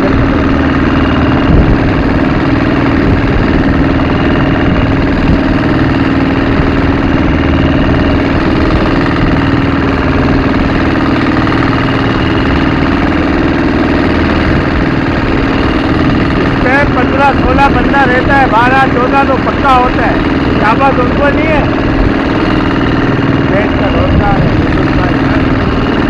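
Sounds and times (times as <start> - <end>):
boat engine running: 0.0 - 26.0
water splashing along hull: 0.0 - 26.0.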